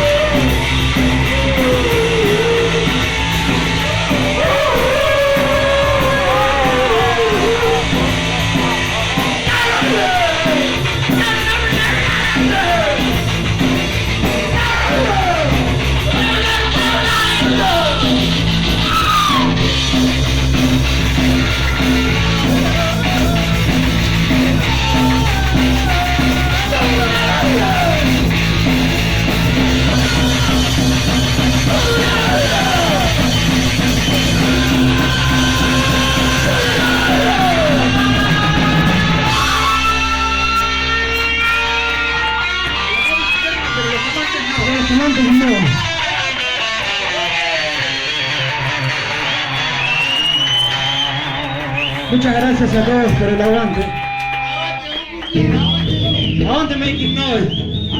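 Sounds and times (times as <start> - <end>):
punk rock band playing: 0.0 - 57.9
yelled vocals: 0.0 - 57.9.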